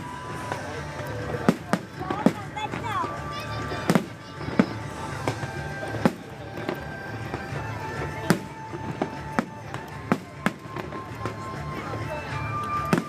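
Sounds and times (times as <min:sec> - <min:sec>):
background music: 0:00.0 - 0:13.0
fireworks bursting bangs: 0:00.0 - 0:13.0.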